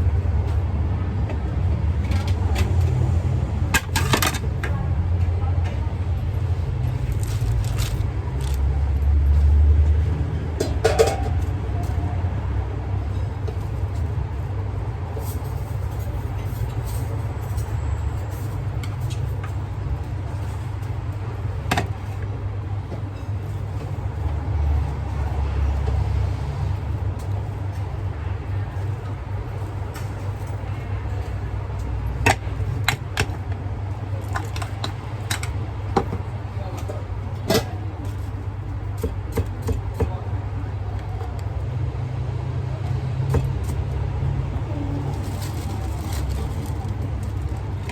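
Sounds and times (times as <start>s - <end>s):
road traffic rumble: 0.0s - 47.9s.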